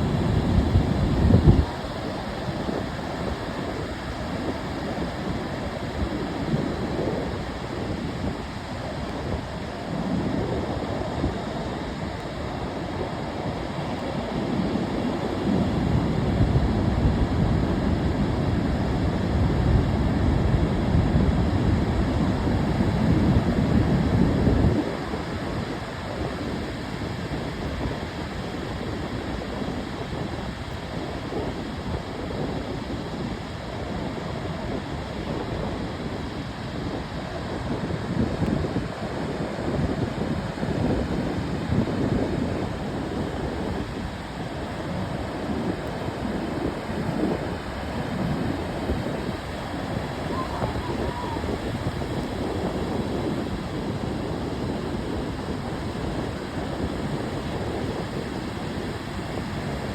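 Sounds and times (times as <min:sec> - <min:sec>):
ocean surf rushing: 0:00.0 - 0:24.1, 0:24.8 - 0:59.9.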